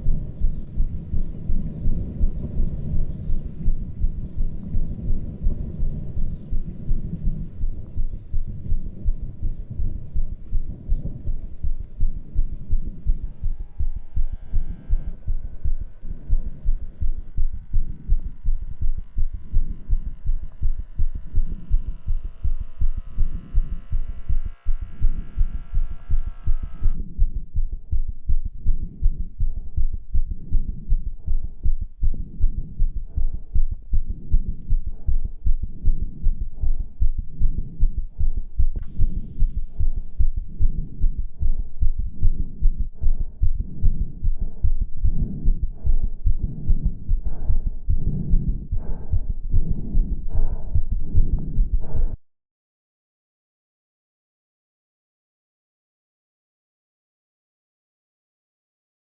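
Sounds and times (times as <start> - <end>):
heartbeat thudding: 0.0 - 52.2.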